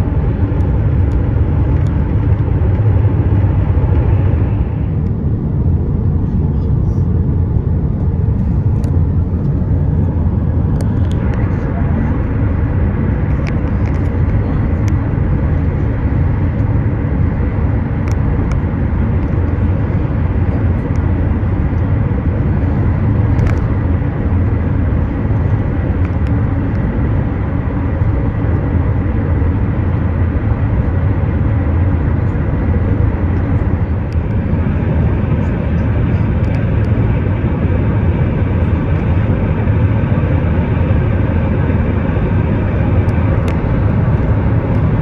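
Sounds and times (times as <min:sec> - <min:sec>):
car cabin road and engine noise: 0:00.0 - 0:45.0.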